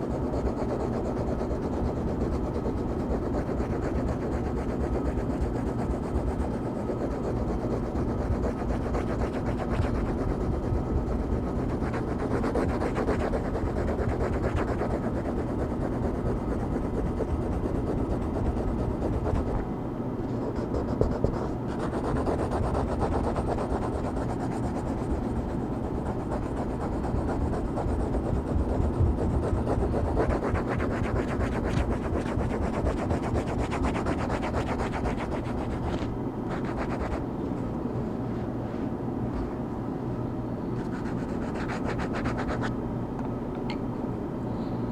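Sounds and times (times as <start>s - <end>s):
coloring strokes scratching on paper: 0.0s - 19.6s, 20.3s - 37.2s, 40.8s - 42.7s.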